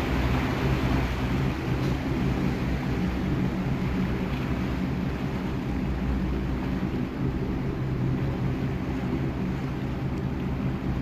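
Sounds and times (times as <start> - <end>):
boat engine droning: 0.0 - 11.0
rushing water: 0.0 - 11.0
wind noise: 0.0 - 11.0.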